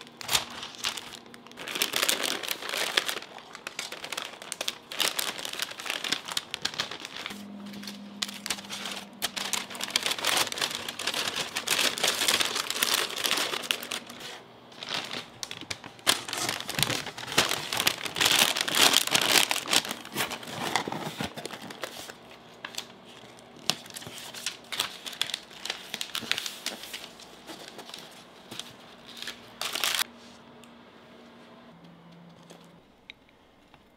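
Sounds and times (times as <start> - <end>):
cardboard box being folded: 0.0 - 7.4, 8.2 - 22.1, 23.8 - 30.1
paper bag crinkling: 0.0 - 30.1.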